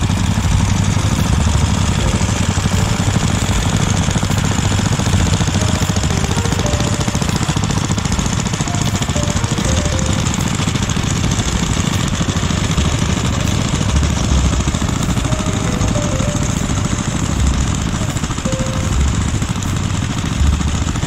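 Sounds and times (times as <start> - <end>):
small engines chugging: 0.0 - 21.0.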